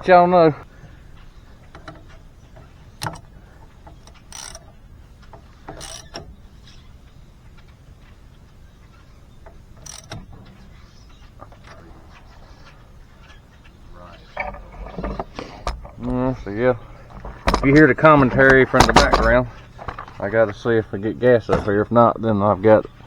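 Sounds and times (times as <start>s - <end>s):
engine mechanical clicks: 0.8s - 7.7s, 8.9s - 23.0s.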